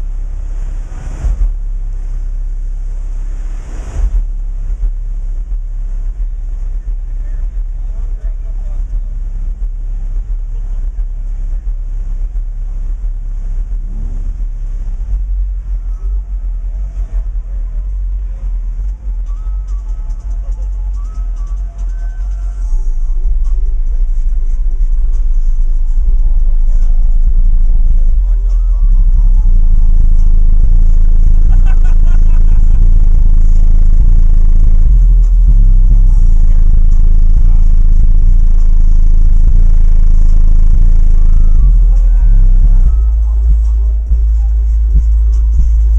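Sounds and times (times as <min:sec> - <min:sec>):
subwoofers playing deep bass: 0:00.0 - 0:45.9.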